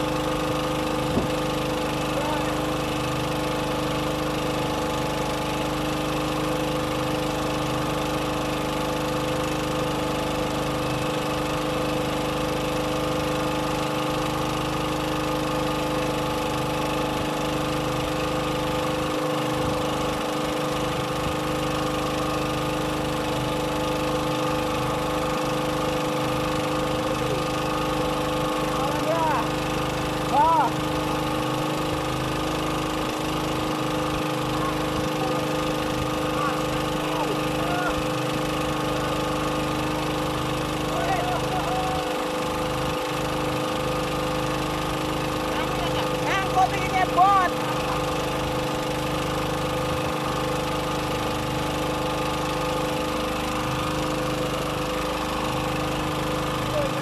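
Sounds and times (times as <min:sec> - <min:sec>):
boat engine running steadily: 0:00.0 - 0:57.0.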